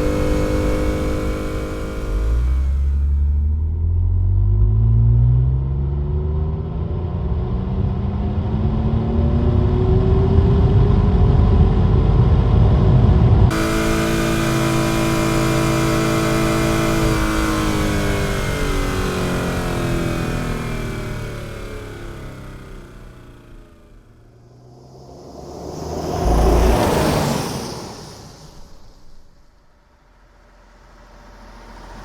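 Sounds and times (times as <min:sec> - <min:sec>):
car engine running steadily: 0:00.0 - 0:05.3, 0:05.9 - 0:32.0
car engine accelerating: 0:00.0 - 0:32.0.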